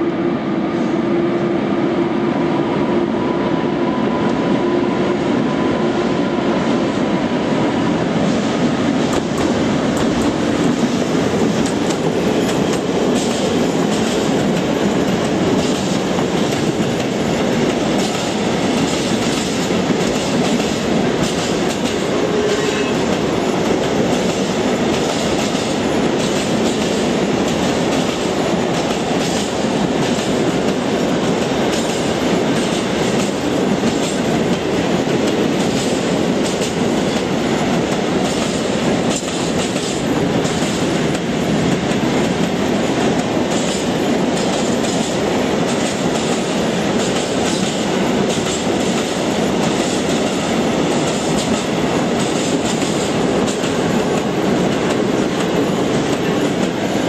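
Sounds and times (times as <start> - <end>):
freight train wheels clickety-clack: 0.4 - 57.0.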